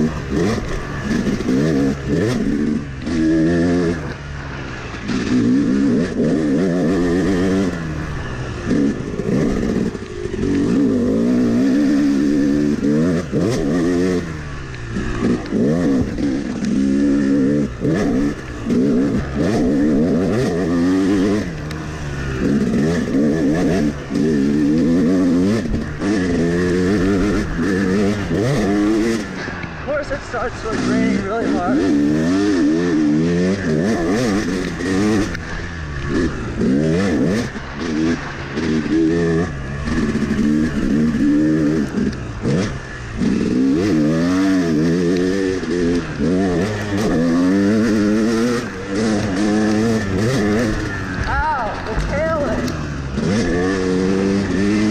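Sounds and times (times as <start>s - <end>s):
two-stroke dirt bike engine revving: 0.0s - 54.9s.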